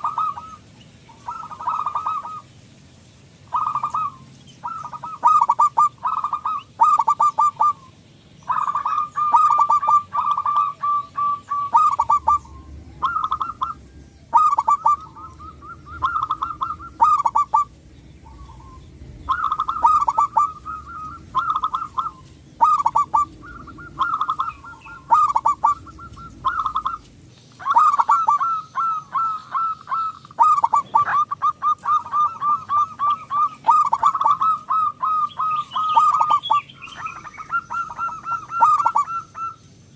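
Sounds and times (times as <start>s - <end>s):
dove cooing: 0.0s - 2.6s, 3.4s - 39.6s.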